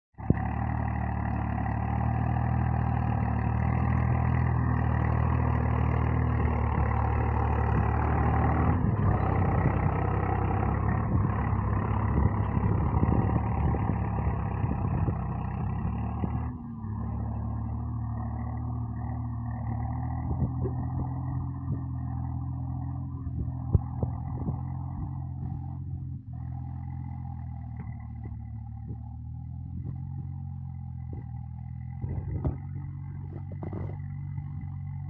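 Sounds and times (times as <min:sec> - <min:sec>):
tractor diesel engine running: 0:00.2 - 0:35.0.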